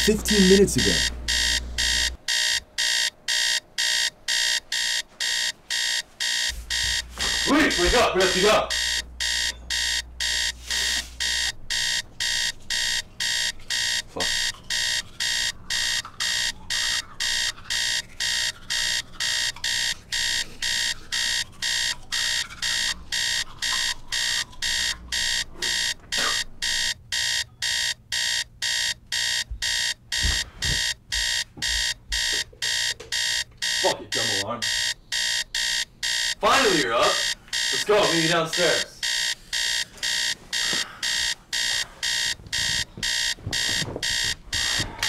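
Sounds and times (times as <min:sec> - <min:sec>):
alarm clock beeping: 0:00.0 - 0:45.0.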